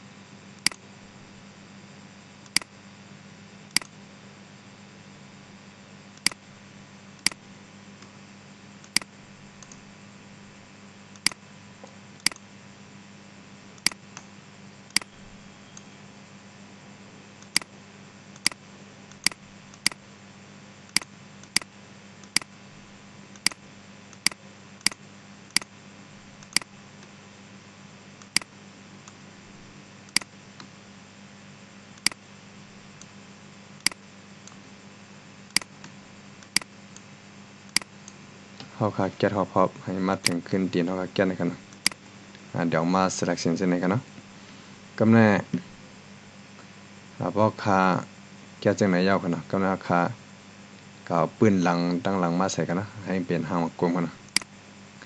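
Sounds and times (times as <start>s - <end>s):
low hum and hiss: 0.0s - 55.0s.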